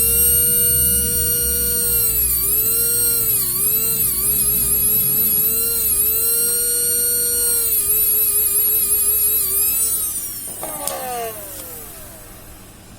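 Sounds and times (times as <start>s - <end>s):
small electric motor whine: 0.0s - 12.8s.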